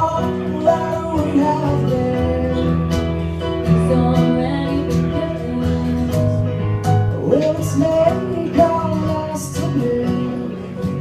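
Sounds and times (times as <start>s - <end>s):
acoustic guitar playing: 0.0s - 11.0s
person singing: 0.0s - 11.0s.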